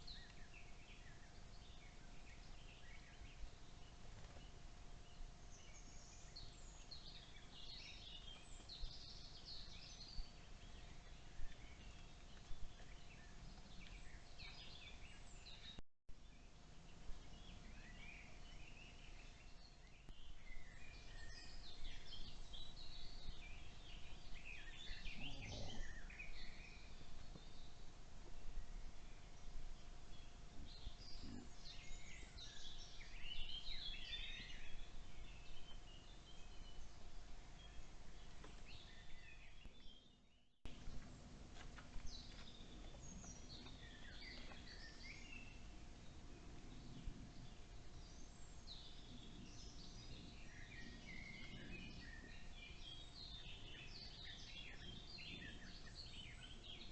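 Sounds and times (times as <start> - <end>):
faint steady hum: 0.0 - 56.9
forest background hiss: 0.0 - 56.9
songbirds singing: 0.0 - 56.9.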